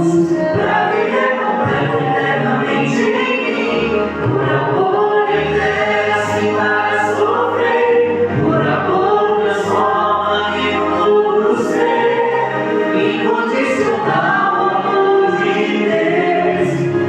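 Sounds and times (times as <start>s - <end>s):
instrumental backing with bass: 0.0s - 17.0s
worship song singing: 0.0s - 17.0s.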